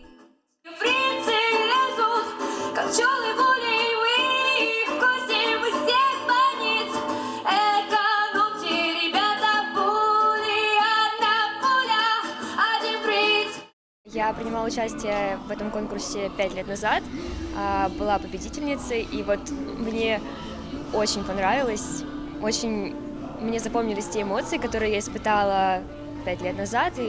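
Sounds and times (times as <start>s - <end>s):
woman singing: 0.0s - 27.0s.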